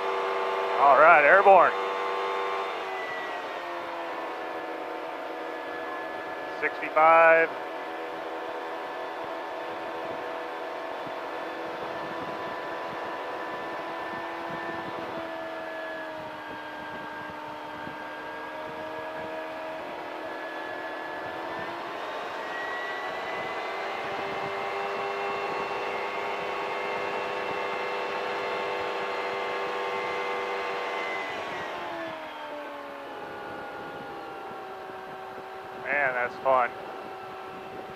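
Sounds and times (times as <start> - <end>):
ultralight engine and propeller droning: 0.0 - 37.9.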